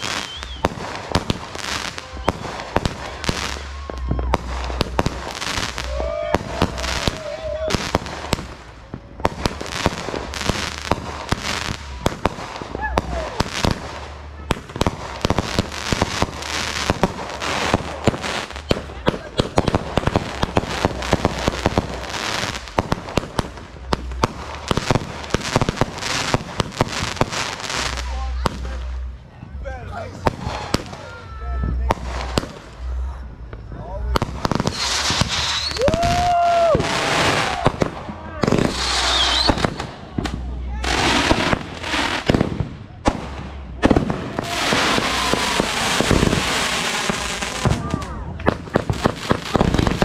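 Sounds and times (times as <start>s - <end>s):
fireworks bangs: 0.0s - 50.0s
fireworks crackling: 0.0s - 50.0s.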